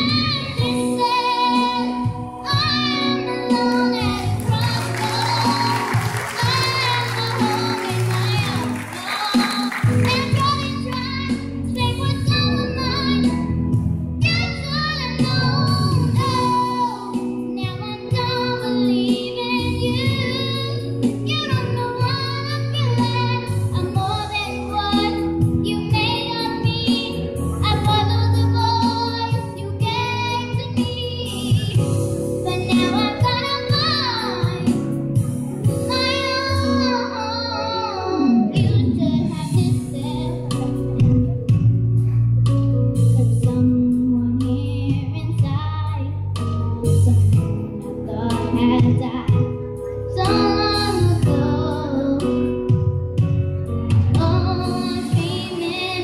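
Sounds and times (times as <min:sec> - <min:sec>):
girl singing into microphone: 0:00.0 - 0:56.0
instrumental backing music: 0:00.0 - 0:56.0.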